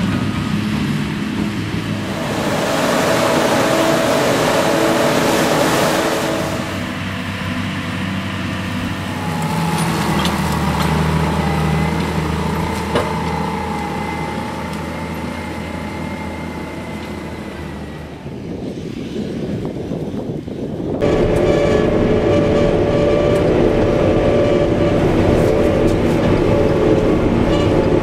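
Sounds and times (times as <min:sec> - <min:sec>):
tractor engine: 0:00.0 - 0:18.9, 0:21.0 - 0:28.0.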